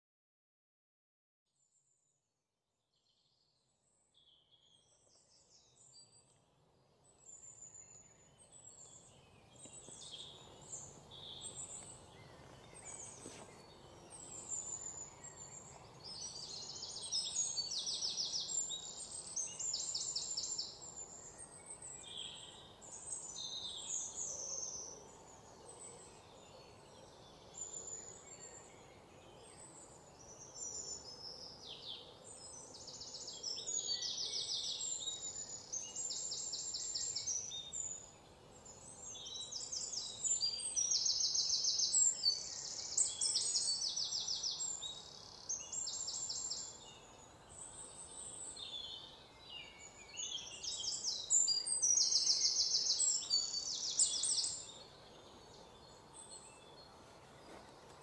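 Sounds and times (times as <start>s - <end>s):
small birds chirping and trilling: 3.1s - 58.0s
faint steady hiss: 4.6s - 58.0s.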